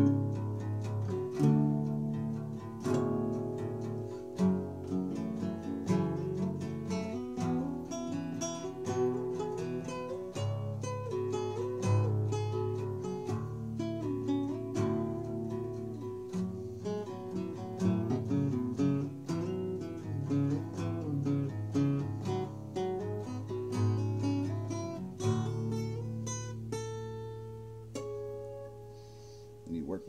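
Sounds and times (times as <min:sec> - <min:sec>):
acoustic guitar playing: 0:00.0 - 0:30.0.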